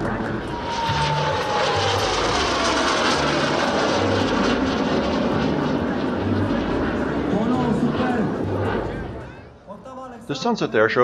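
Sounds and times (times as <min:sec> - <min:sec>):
jet flying past: 0:00.0 - 0:09.6.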